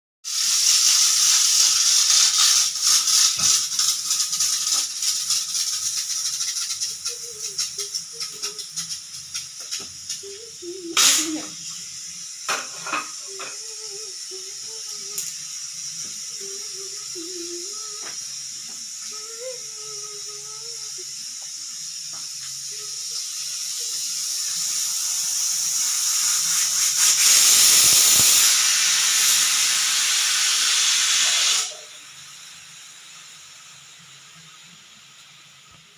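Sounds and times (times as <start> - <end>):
pressure cooker whistle: 0.2 - 33.6
steam hissing: 0.2 - 35.9.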